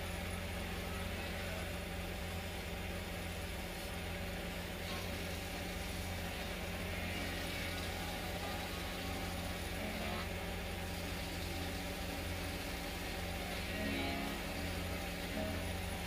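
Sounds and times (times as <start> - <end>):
wood lathe humming and hissing: 0.0 - 16.0.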